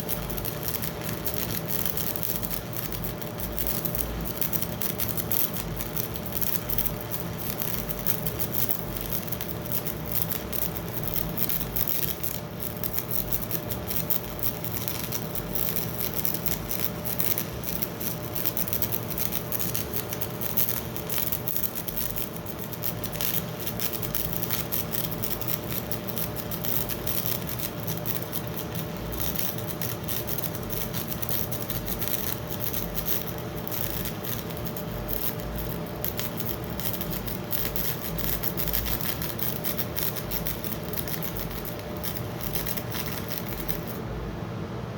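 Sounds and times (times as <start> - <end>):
welding arc crackling: 0.0 - 44.2
welder electrical hum: 0.0 - 44.9.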